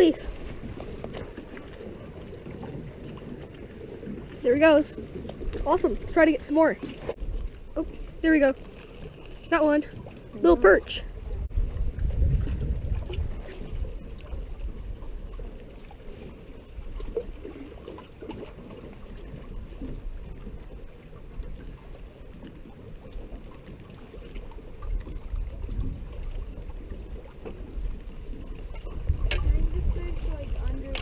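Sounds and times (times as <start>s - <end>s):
water lapping against boat hull: 0.0s - 31.0s
wind buffeting microphone: 0.0s - 31.0s.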